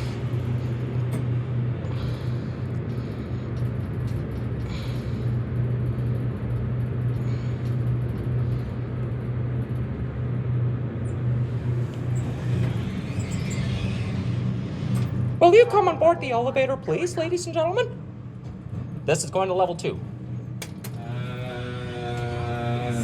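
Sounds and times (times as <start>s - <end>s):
elevator car humming and rumbling: 0.0s - 23.0s.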